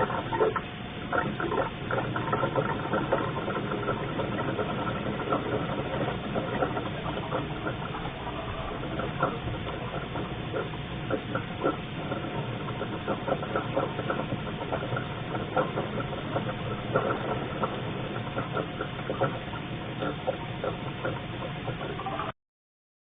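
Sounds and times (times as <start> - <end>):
refrigerant hissing and gurgling: 0.0 - 22.3.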